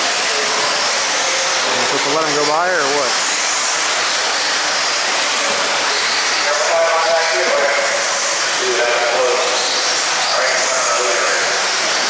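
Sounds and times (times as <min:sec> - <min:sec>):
rc car motors whining: 0:00.0 - 0:12.0.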